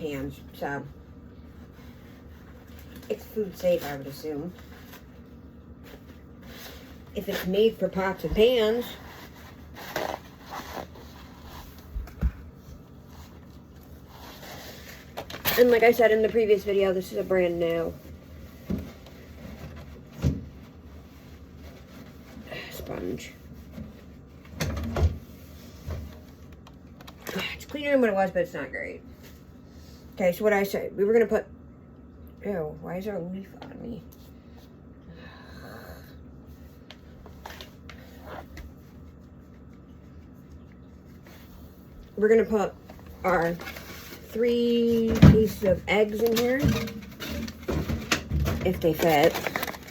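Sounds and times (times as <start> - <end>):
low steady hum: 0.0 - 49.9.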